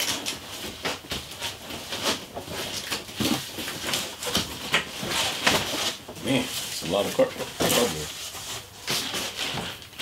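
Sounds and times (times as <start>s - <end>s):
cardboard scraping and rustling: 0.0s - 10.0s.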